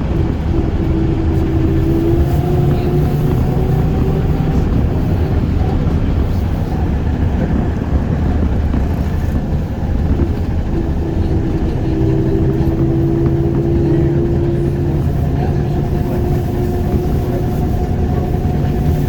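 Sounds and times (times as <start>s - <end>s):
wheels rumbling on road: 0.0s - 19.0s.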